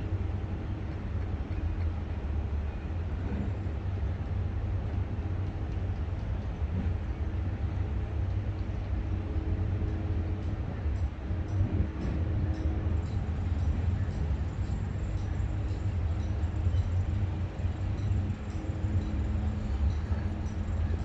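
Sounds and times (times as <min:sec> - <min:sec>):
distant construction rumble: 0:00.0 - 0:21.0
traffic rumble: 0:00.0 - 0:21.0.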